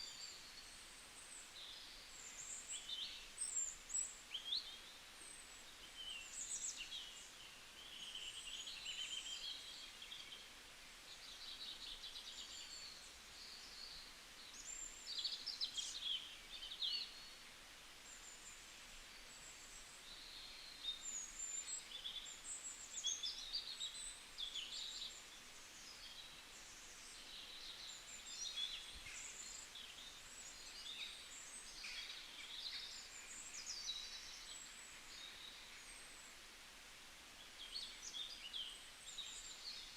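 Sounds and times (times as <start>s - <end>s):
faint background noise: 0.0s - 39.9s
small birds singing: 0.0s - 39.9s.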